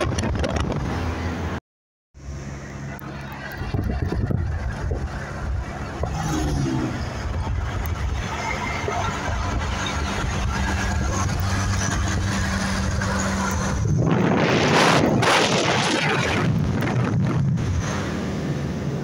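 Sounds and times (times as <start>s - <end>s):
road noise and engine hum: 0.0s - 1.6s, 2.2s - 19.0s
rough rushing noise: 3.0s - 19.0s.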